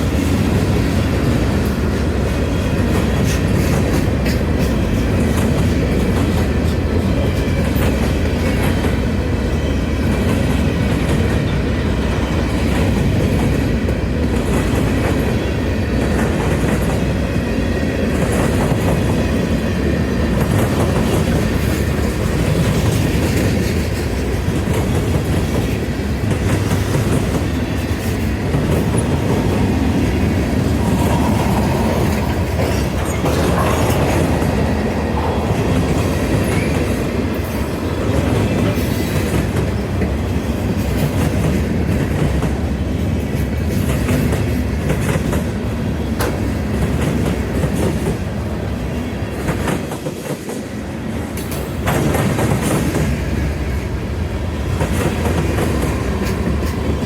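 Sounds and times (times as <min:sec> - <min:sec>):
railroad cars rumbling past: 0:00.0 - 0:57.0.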